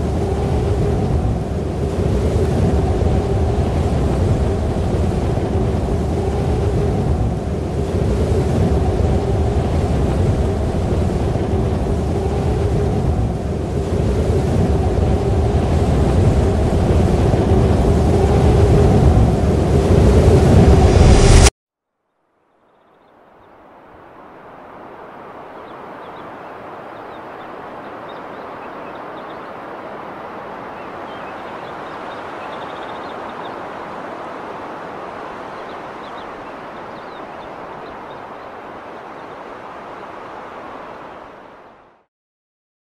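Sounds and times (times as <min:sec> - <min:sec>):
rushing wind: 0:00.0 - 0:21.5, 0:23.5 - 0:41.9.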